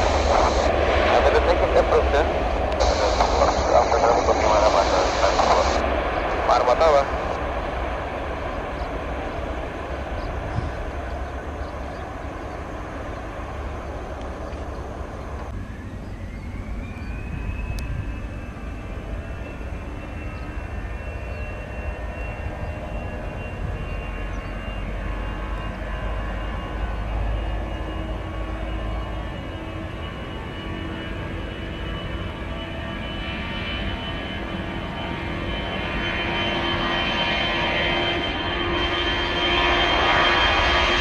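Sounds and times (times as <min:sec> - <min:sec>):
high-pitched engine whine: 0:00.0 - 0:41.0
jet engines rumbling: 0:00.0 - 0:41.0.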